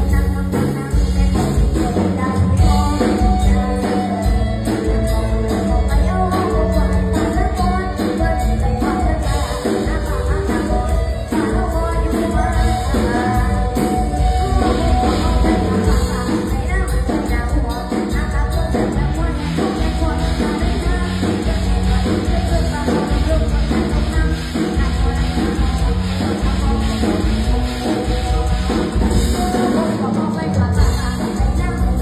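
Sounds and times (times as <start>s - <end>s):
loud band music: 0.0s - 32.0s
person singing: 0.0s - 32.0s.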